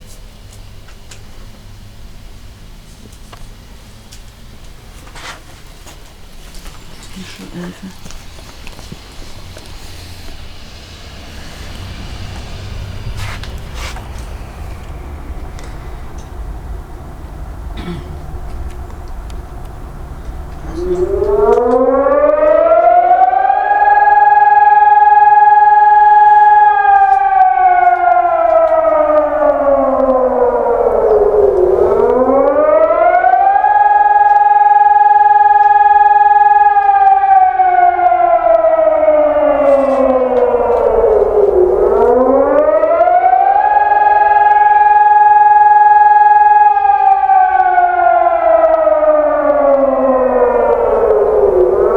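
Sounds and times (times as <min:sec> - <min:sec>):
civil defence siren wailing: 0:00.0 - 0:51.9.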